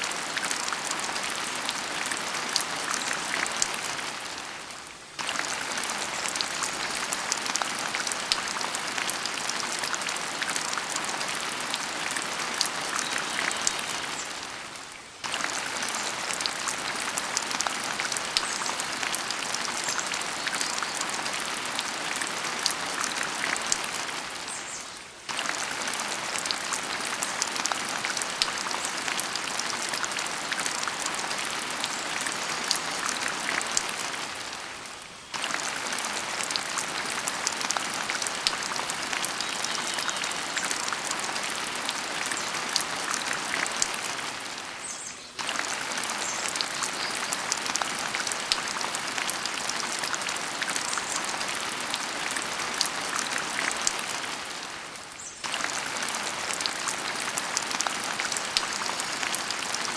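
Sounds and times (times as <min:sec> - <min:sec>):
rain-like patter: 0:00.0 - 0:59.9.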